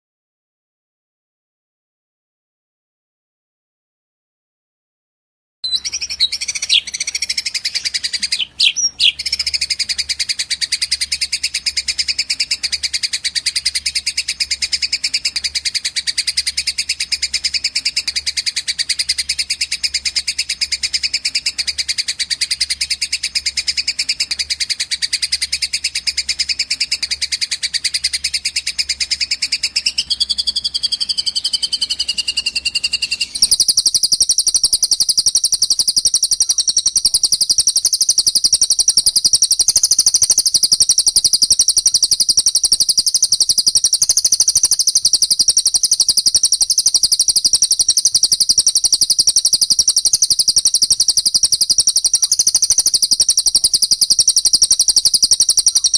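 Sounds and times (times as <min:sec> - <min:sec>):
songbird chattering trill: 0:05.7 - 0:55.9.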